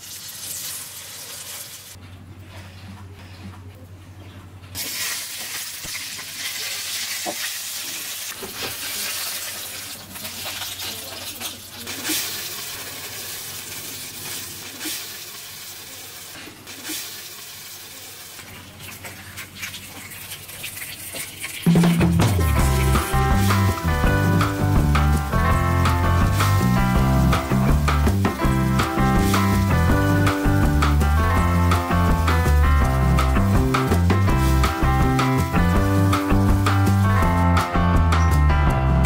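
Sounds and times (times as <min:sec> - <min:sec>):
meat frying in oil: 0:00.0 - 0:02.0, 0:04.8 - 0:36.9.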